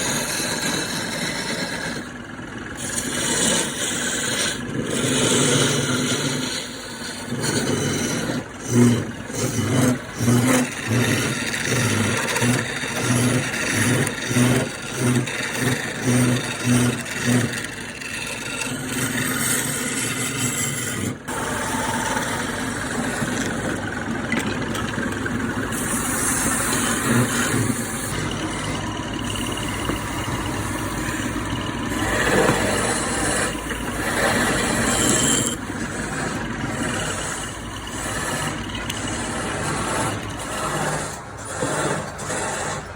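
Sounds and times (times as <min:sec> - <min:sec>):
electric power tool motor: 0:00.0 - 0:42.9.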